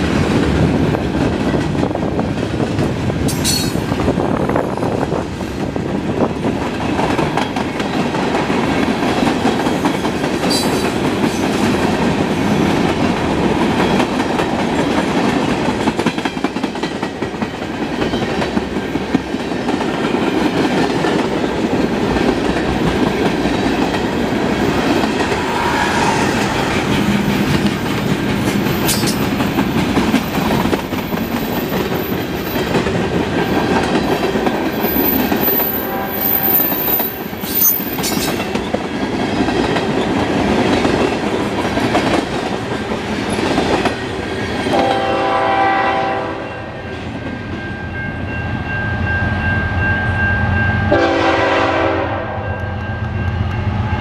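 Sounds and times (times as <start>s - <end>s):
freight train rolling past: 0.0s - 54.0s
steel wheels rumbling on rails: 0.0s - 54.0s.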